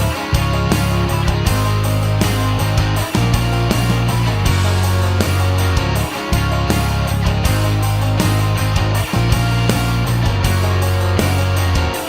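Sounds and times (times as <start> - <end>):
distorted electric guitar: 0.0 - 12.0
heavy bass line: 0.0 - 12.0
steady drum beat: 0.0 - 12.0.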